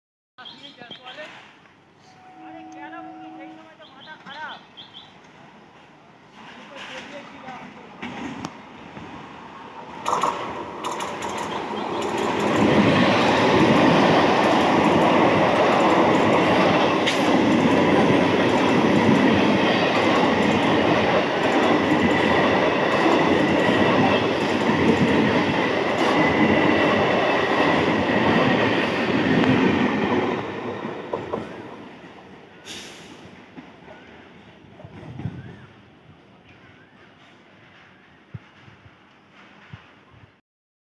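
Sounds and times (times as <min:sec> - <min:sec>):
electric train passing: 0:01.8 - 0:39.8.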